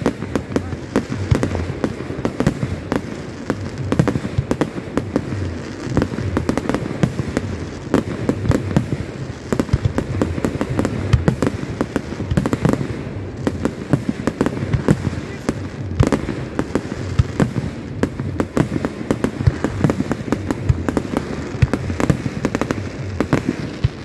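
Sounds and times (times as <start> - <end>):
fireworks bursting with bangs: 0.0 - 24.0.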